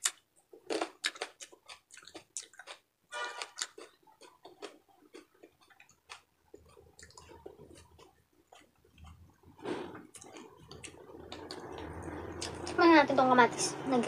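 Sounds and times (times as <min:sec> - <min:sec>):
person chewing food: 0:00.0 - 0:12.8.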